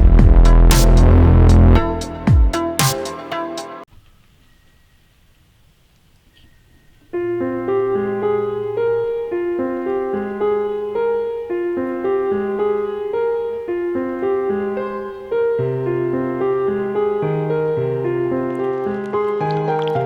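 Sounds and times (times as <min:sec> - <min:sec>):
piano-like keyboard music: 0:00.0 - 0:03.9, 0:07.2 - 0:20.0.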